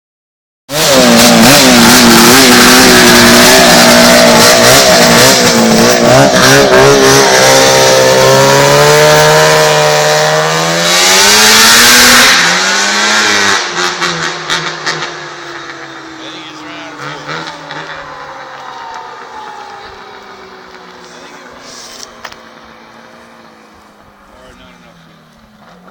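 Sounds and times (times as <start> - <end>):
snowmobile engine accelerating: 0.7 - 25.9.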